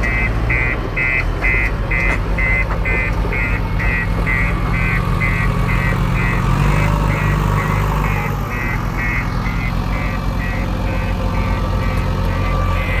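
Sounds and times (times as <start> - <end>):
heavy diesel engine running: 0.0 - 13.0
high repeating beep: 0.1 - 13.0.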